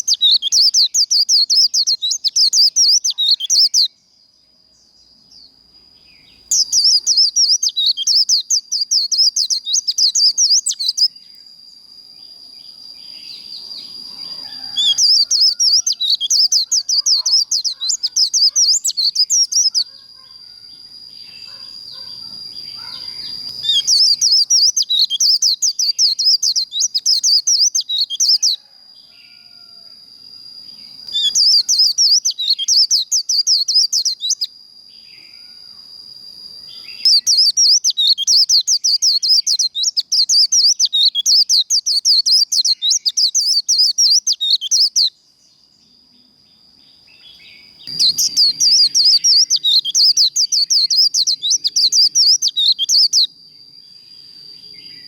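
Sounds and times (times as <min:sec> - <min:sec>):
bird twittering song: 0:00.0 - 0:28.7, 0:30.3 - 0:35.6, 0:36.6 - 0:55.0.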